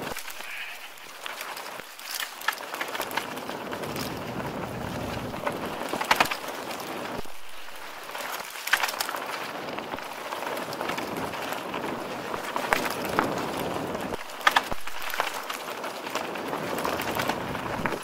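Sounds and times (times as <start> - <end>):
bike knocking and rattling: 0.0 - 18.0
bike tyres rolling on trail: 0.0 - 18.0.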